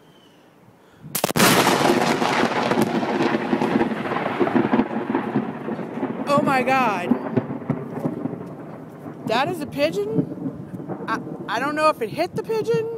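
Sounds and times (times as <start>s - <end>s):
thunderclap and rolling thunder: 1.1s - 12.9s.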